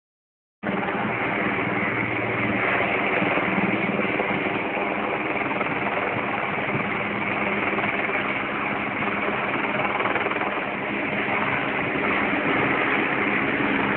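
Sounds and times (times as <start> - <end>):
helicopter hovering: 0.6 - 13.9.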